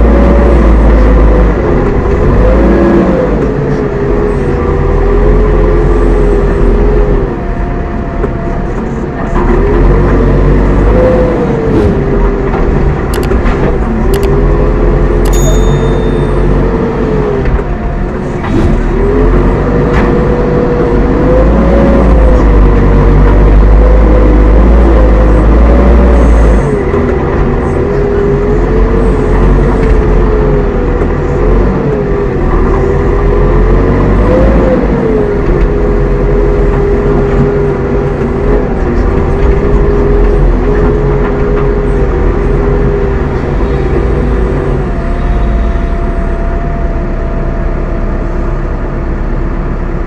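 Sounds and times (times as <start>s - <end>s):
diesel engine running under load: 0.0s - 50.0s.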